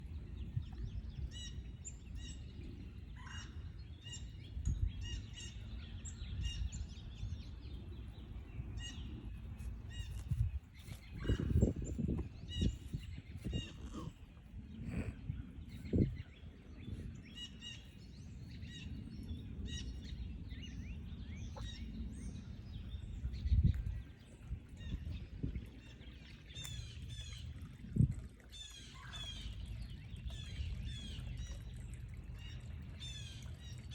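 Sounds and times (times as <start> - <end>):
wild birds chirping and trilling: 0.0 - 33.9
low outdoor rumble: 5.7 - 33.9.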